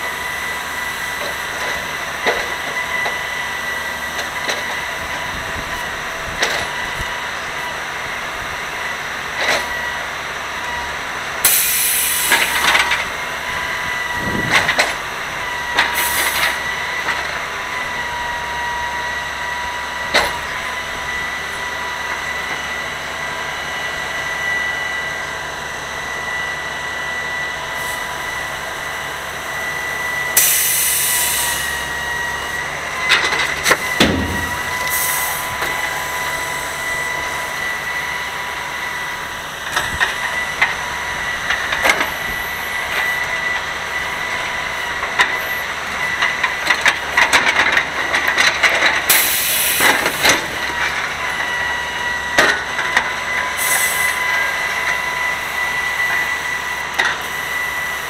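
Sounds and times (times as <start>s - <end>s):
truck engine and hydraulic whine: 0.0s - 58.0s.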